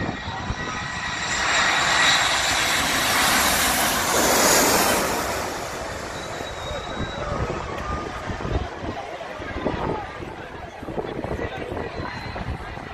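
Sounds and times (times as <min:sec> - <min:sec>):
jet plane passing overhead: 0:00.0 - 0:12.9.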